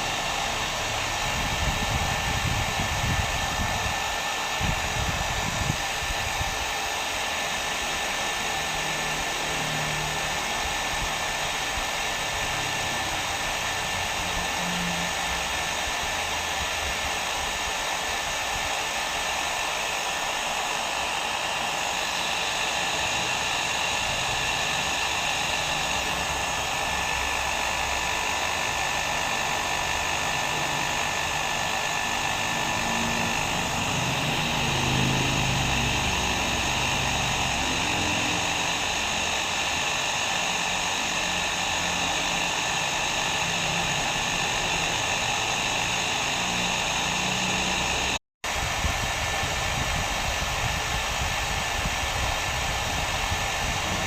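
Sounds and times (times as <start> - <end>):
hair dryer blowing air: 0.0 - 54.0.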